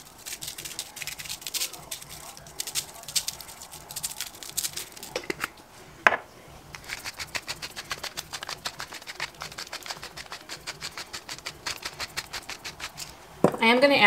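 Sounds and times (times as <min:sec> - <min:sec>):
seasoning shaker shaking: 0:00.0 - 0:05.5, 0:06.8 - 0:13.2.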